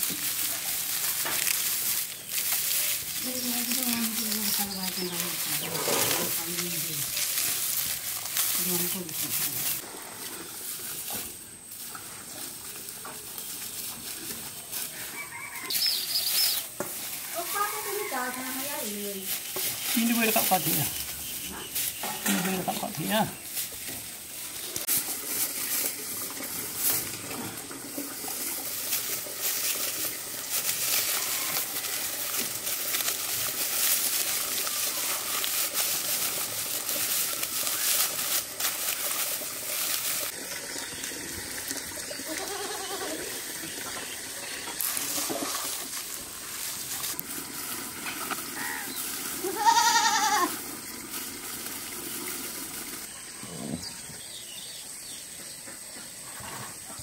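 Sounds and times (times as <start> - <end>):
dry straw rustling and crackling: 0.0 - 53.1.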